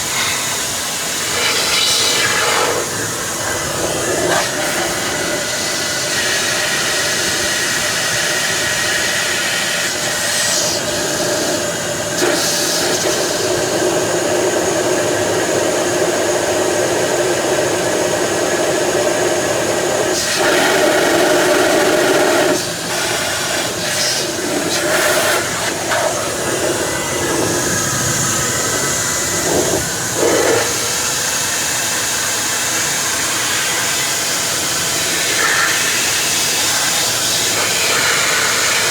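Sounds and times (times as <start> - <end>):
electric motor with rushing air: 0.0 - 38.9.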